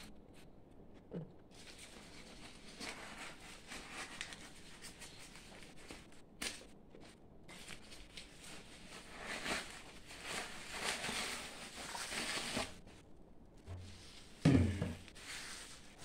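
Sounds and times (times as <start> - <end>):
rustling and scraping of wrapped pipe: 0.0 - 13.0, 15.0 - 16.0.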